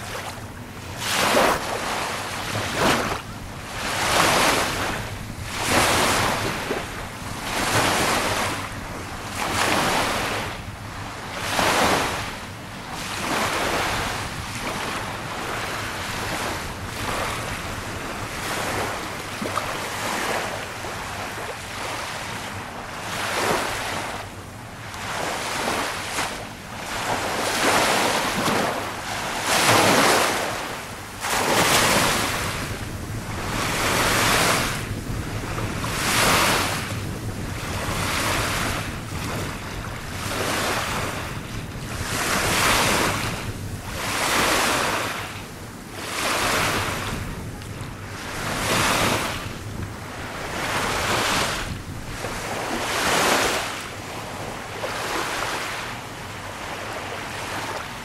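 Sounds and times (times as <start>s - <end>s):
waves washing onto beach: 0.0s - 58.0s.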